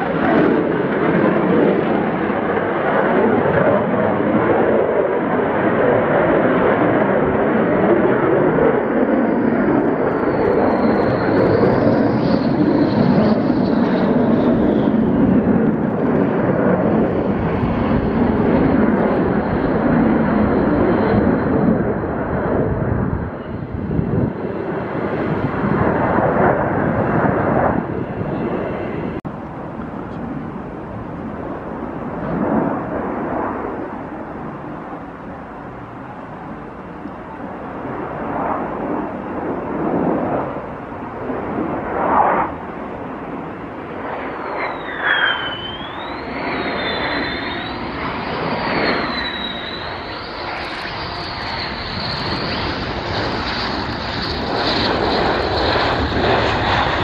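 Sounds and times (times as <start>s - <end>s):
loud rushing jet noise: 0.0s - 34.6s, 37.8s - 57.0s
high turbine whine: 0.0s - 57.0s.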